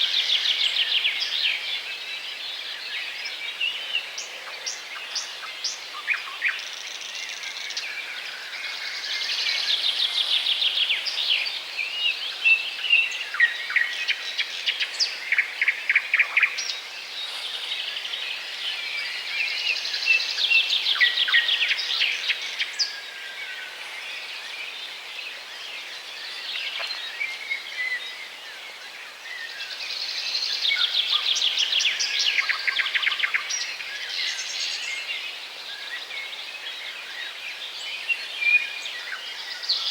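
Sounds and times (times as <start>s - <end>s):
small songbirds singing: 0.0s - 39.9s.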